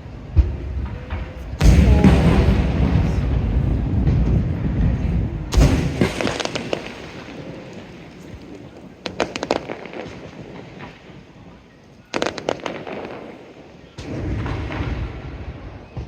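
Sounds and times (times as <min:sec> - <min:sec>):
fireworks crackling: 0:00.0 - 0:15.4
fireworks booming: 0:00.0 - 0:16.0.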